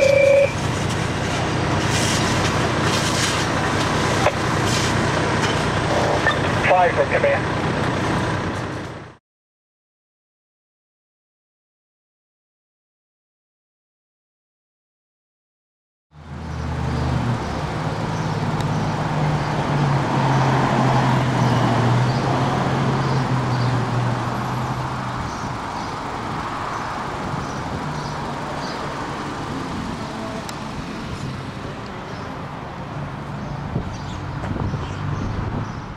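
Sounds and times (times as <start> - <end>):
road traffic noise: 0.0 - 9.2, 16.1 - 35.9
vehicle engine humming: 0.0 - 9.2, 16.2 - 35.9.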